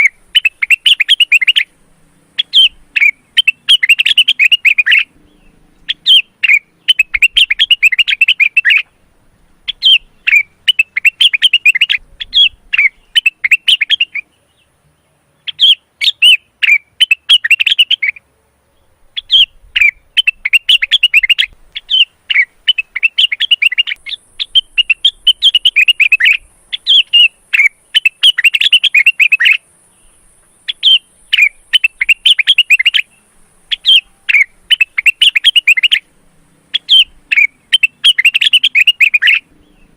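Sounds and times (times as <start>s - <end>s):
bird singing chattering chirps: 0.0s - 36.1s, 36.7s - 39.9s.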